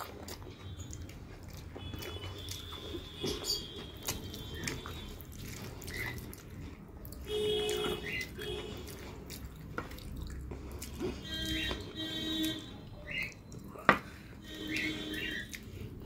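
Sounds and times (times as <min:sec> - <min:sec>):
chewing mouth noises: 0:00.0 - 0:16.0
fingers squishing rice and curry: 0:00.0 - 0:16.0.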